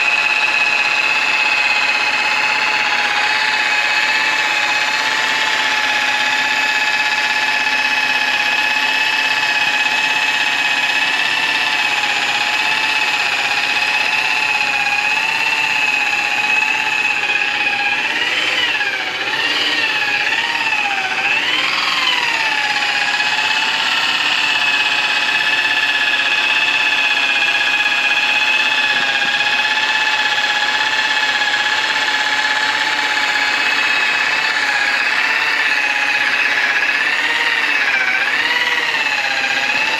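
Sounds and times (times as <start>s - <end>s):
electric polisher motor whining: 0.0s - 39.9s.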